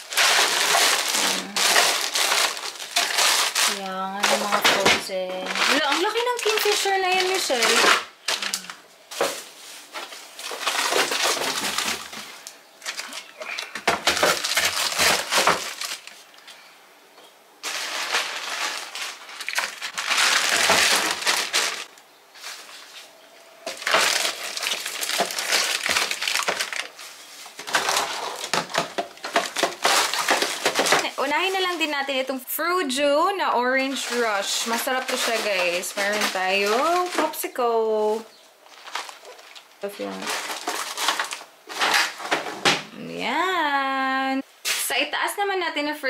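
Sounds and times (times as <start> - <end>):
plastic packaging crinkling: 0.0 - 16.6, 17.6 - 32.3, 33.6 - 42.5.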